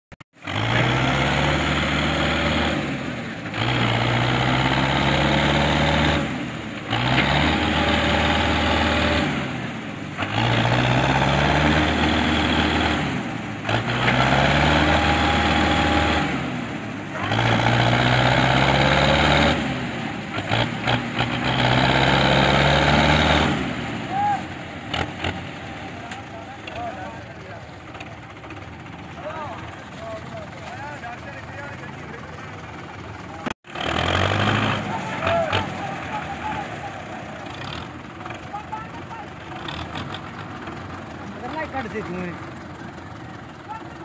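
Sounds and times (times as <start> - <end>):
tractor diesel engine revving: 0.1 - 44.0.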